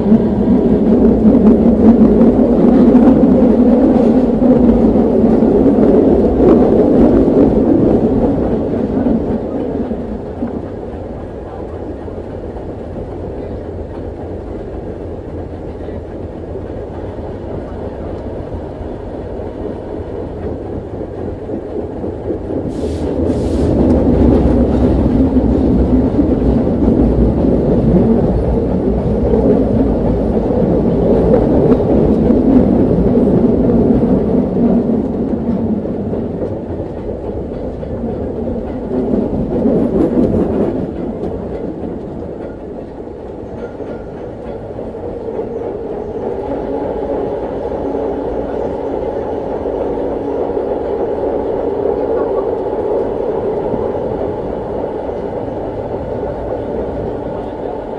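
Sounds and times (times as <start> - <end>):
railcar rumbling on track: 0.0 - 57.9.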